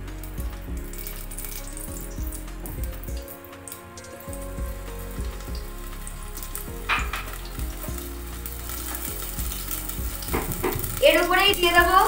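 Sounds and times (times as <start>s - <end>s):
oil sizzling crackling hiss: 0.0s - 12.0s.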